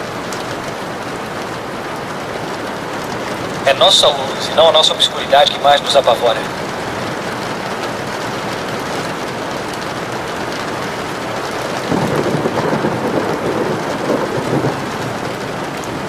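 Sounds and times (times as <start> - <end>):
steady rain falling: 0.0 - 16.0
thunder rumbling: 2.7 - 16.0.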